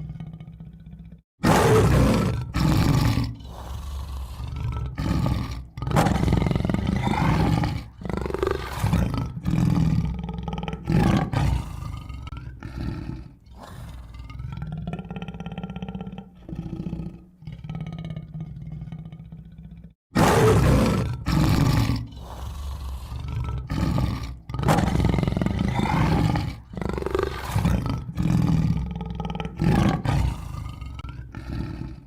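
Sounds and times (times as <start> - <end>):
tiger roaring and growling: 0.0 - 32.0.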